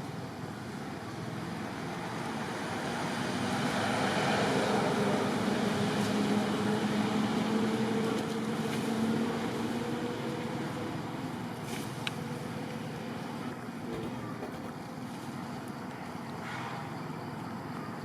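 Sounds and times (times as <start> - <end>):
vehicle engine humming: 1.6 - 16.2.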